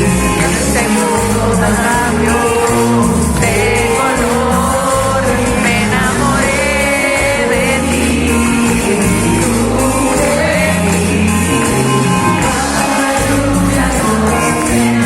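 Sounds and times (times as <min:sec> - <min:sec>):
upbeat pop song with vocals: 0:00.0 - 0:15.0.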